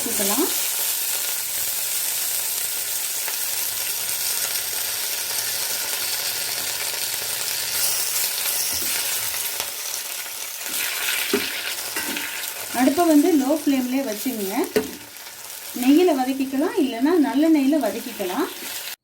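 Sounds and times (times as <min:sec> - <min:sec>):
leaves sizzling in hot ghee: 0:00.0 - 0:19.0.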